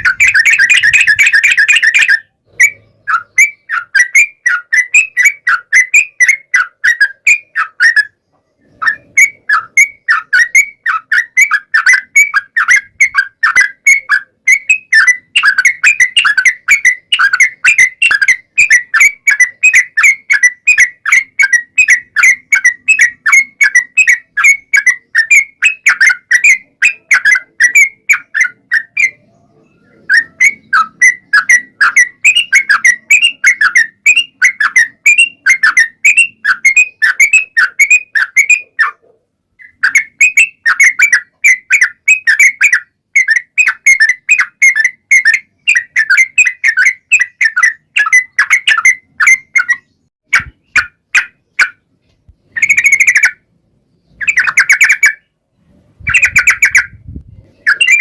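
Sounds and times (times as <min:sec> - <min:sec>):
bulbul singing whistled notes: 0:00.0 - 0:39.0, 0:39.6 - 0:51.8, 0:52.5 - 0:55.3, 0:56.0 - 0:58.0.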